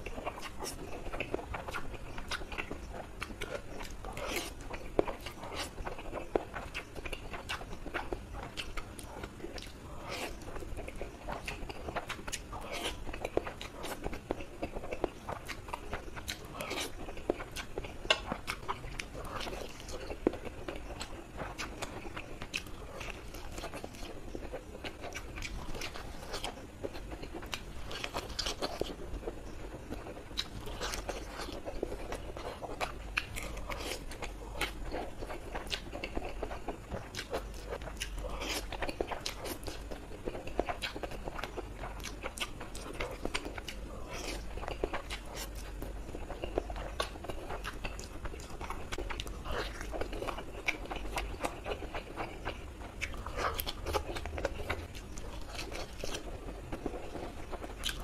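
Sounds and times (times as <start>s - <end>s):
person chewing and slurping noodles: 0.0s - 58.0s.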